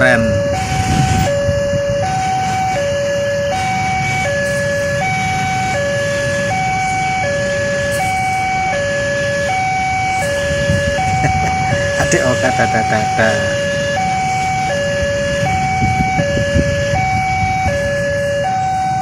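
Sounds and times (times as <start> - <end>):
level-crossing two-tone alarm: 0.0 - 19.0.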